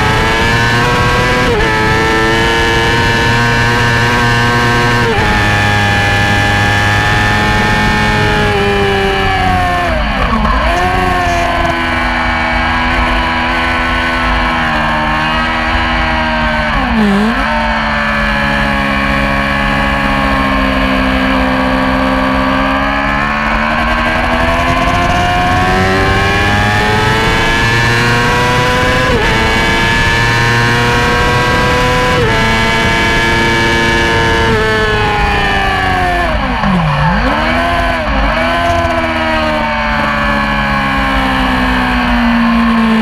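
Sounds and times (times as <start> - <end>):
sport bike engine revving: 0.0 - 43.0.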